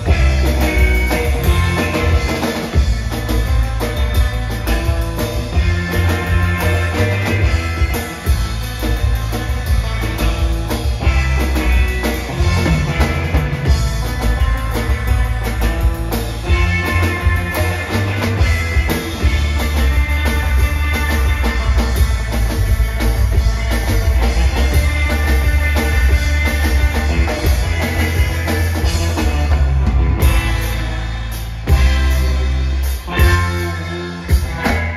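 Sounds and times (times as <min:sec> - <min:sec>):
drum kit beat: 0:00.0 - 0:34.9
electric guitar: 0:00.0 - 0:34.9.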